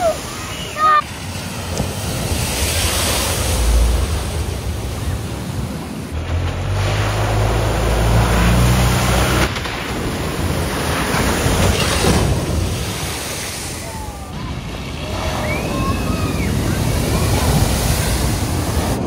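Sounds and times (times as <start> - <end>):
water spraying and splashing: 0.0 - 19.0.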